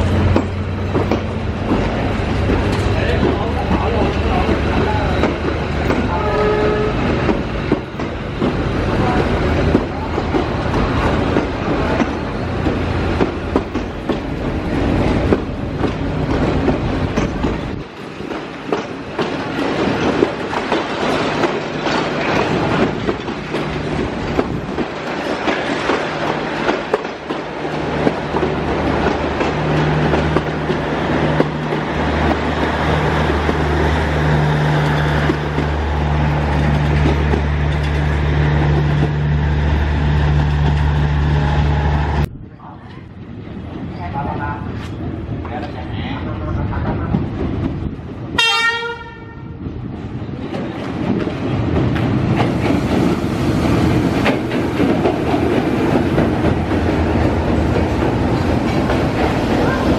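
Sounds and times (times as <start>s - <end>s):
train wheels clacking over rail joints: 0.0s - 41.1s, 50.0s - 59.9s.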